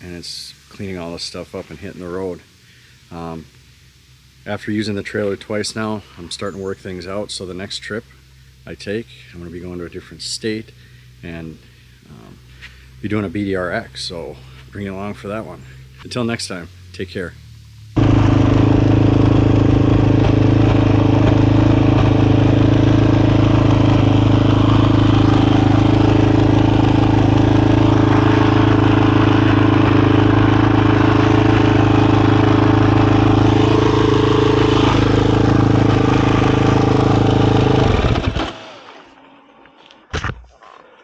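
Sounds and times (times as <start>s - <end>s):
dirt bike engine idling: 0.0s - 40.1s.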